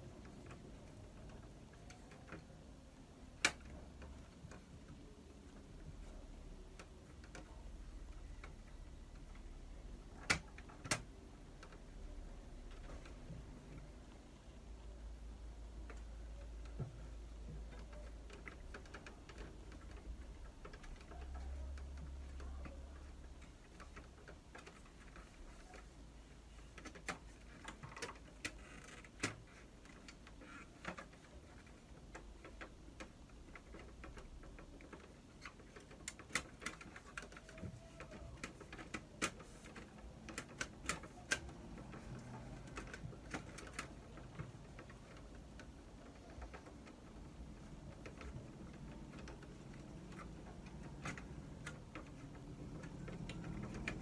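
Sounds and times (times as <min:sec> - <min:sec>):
plastic and metal parts clicking: 0:00.0 - 0:54.0.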